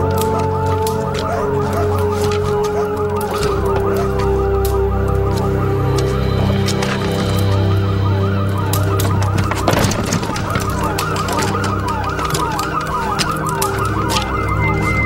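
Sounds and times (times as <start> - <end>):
crackles: 0.0 - 15.0
electronic siren wailing: 0.0 - 15.0
steady low drone: 0.0 - 15.0.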